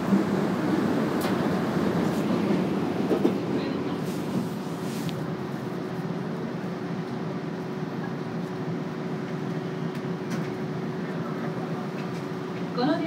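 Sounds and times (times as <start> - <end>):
subway train humming: 0.0 - 13.0.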